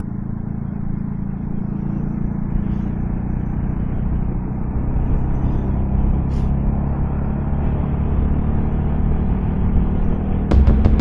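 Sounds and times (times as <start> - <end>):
motorcycle engine running: 0.0 - 8.5, 9.7 - 11.0
road and wind noise: 0.0 - 11.0.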